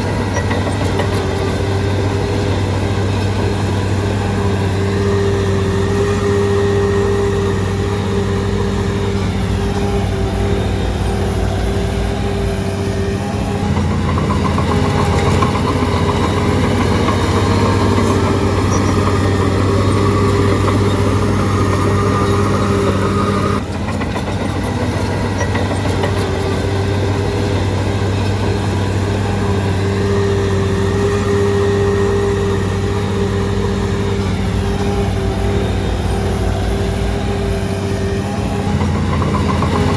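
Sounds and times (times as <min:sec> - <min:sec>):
bulldozer diesel engine: 0:00.0 - 0:39.9
rising machine whine: 0:00.0 - 0:39.9.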